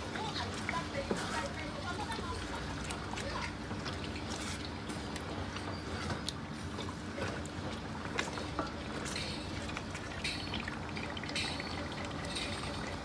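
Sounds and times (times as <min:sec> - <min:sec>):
stew sloshing and squelching: 0:00.0 - 0:13.0.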